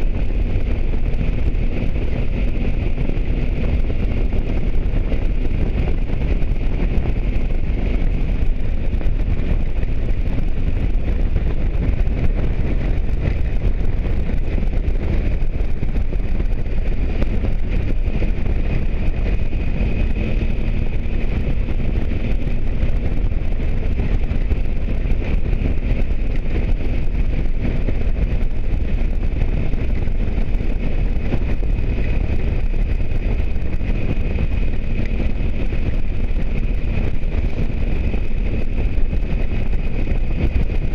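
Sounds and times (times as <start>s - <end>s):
motorcycle engine drone: 0.0s - 40.9s
road noise: 0.0s - 40.9s
wind rush over microphone: 0.0s - 40.9s.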